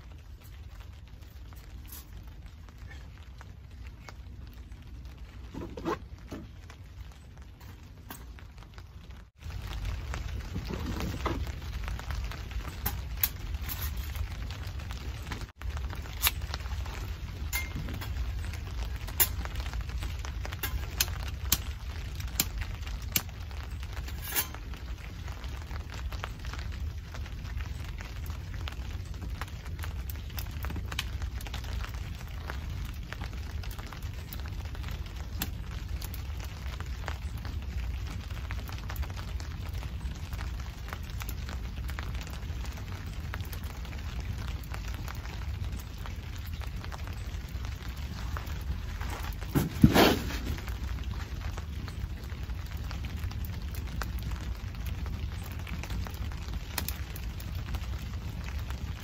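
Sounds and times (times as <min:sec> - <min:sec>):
kindling crackling: 0:00.0 - 0:59.0
rain on a tarp: 0:00.0 - 0:59.0.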